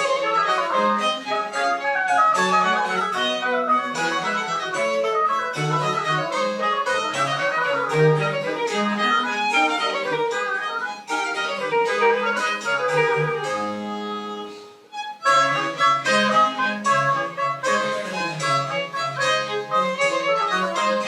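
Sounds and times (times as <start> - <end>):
baroque chamber music with violin: 0.0 - 21.0.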